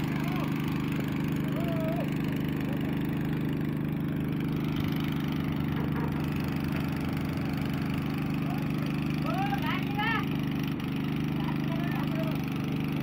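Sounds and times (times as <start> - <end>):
crane diesel engine running: 0.0 - 13.0.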